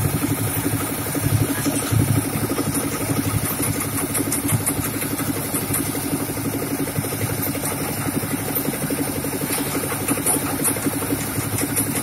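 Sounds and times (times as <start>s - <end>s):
concrete mixer engine chugging: 0.0s - 12.0s.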